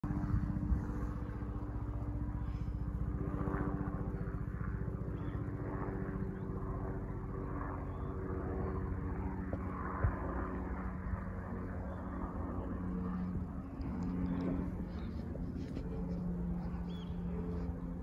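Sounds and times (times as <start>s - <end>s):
helicopter engine hum: 0.0s - 18.0s
helicopter rotor beat: 0.0s - 18.0s.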